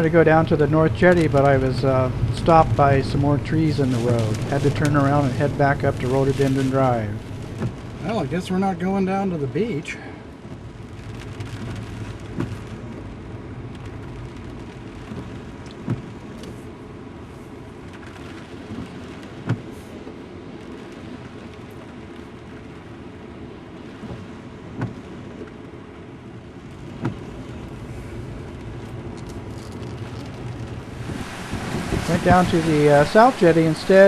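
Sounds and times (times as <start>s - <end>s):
low road rumble: 0.0s - 34.0s
rain on car: 0.0s - 34.0s.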